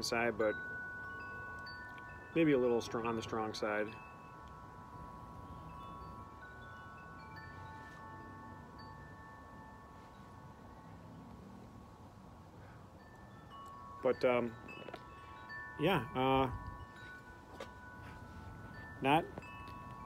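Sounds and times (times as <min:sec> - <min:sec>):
wind chimes ringing: 0:00.0 - 0:20.0.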